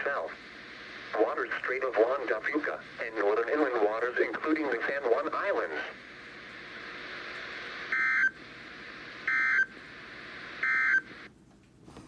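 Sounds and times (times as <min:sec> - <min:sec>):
radio hiss: 0:00.0 - 0:11.3.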